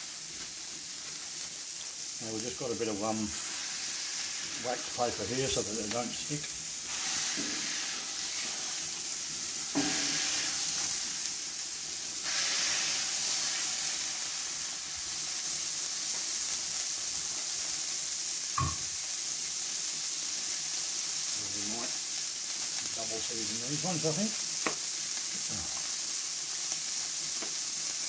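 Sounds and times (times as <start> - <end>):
meat sizzling on griddle: 0.0 - 28.0.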